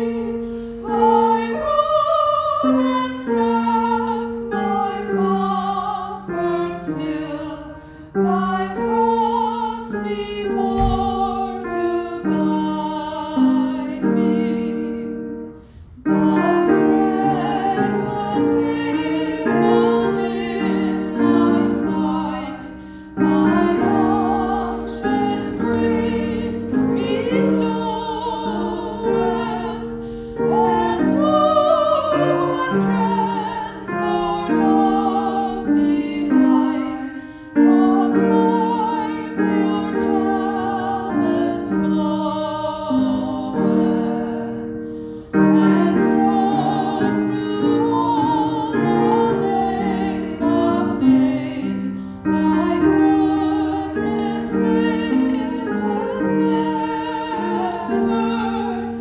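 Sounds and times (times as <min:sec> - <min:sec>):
person singing with vibrato: 0:00.0 - 0:59.0
piano accompaniment: 0:00.0 - 0:59.0.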